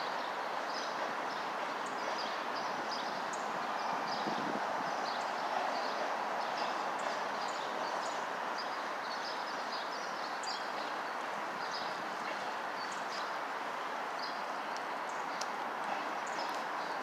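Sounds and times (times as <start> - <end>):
small birds chirping: 0.2 - 17.0.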